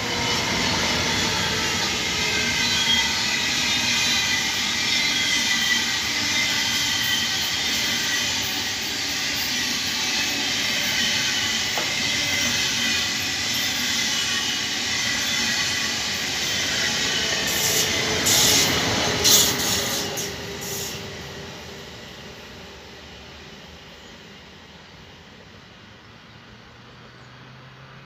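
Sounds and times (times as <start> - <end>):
high-speed train passing: 0.0 - 28.0.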